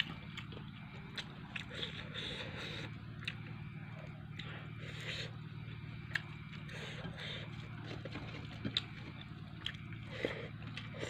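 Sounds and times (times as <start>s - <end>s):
chewing and lip smacks: 0.0s - 5.4s, 6.0s - 11.0s
steady low hum: 0.0s - 11.0s.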